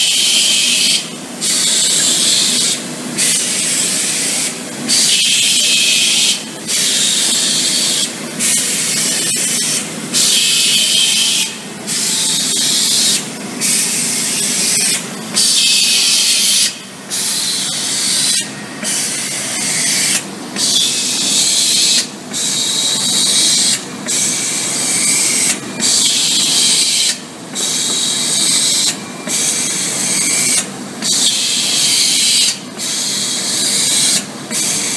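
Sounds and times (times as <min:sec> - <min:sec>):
machine running: 0:00.0 - 0:34.9
pulsing air hiss: 0:00.0 - 0:34.9.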